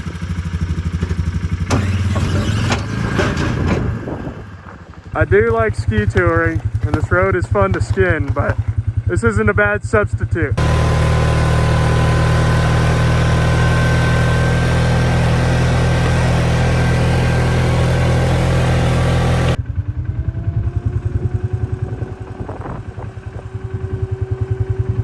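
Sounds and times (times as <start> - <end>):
engine running loud: 0.0 - 25.0
low-revving engine pulsing: 0.0 - 25.0.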